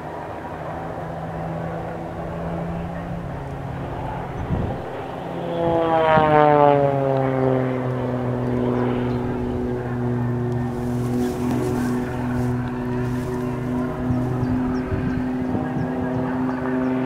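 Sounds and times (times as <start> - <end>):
propeller plane droning: 0.0 - 17.0.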